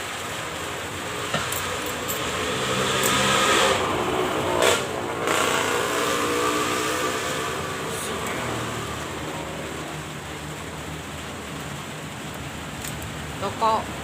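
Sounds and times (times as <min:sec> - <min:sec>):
wind and road rush: 0:00.0 - 0:14.0.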